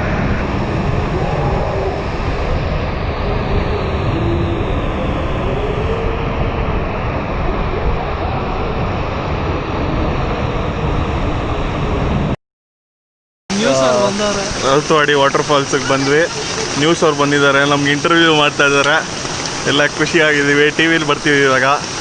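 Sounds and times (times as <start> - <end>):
motorcycle road noise rumble: 0.0 - 12.4, 13.5 - 22.0
wind rush: 0.0 - 12.4, 13.5 - 22.0.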